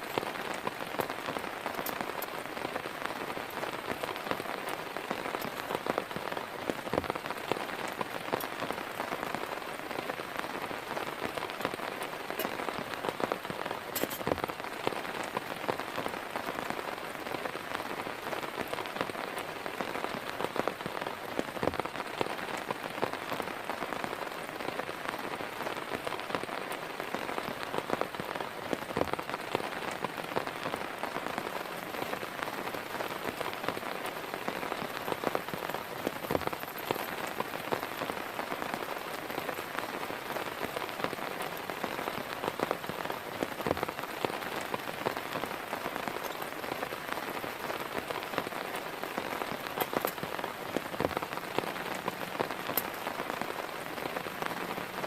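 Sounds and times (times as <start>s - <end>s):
heavy rain: 0.0s - 55.0s
raindrops striking close by: 0.0s - 55.0s.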